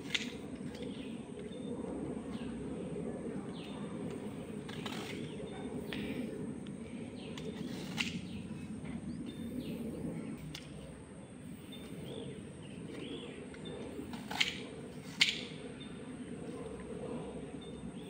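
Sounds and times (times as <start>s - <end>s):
low rural background noise: 0.0s - 18.0s
birds chirping faintly: 0.2s - 18.0s.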